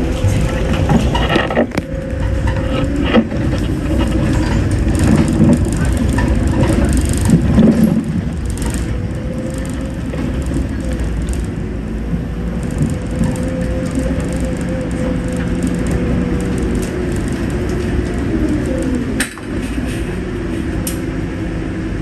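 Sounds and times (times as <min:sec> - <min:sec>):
bus engine whine and rumble: 0:00.0 - 0:22.0.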